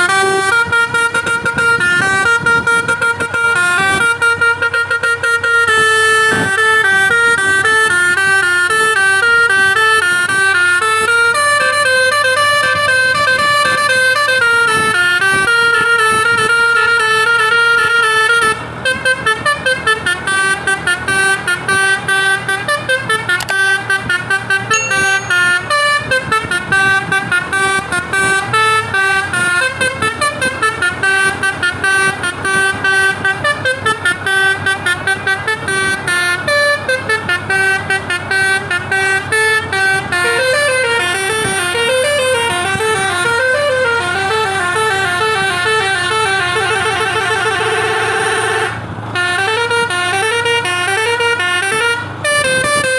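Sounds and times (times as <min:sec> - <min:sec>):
bus horn playing a tune: 0:00.0 - 0:52.9.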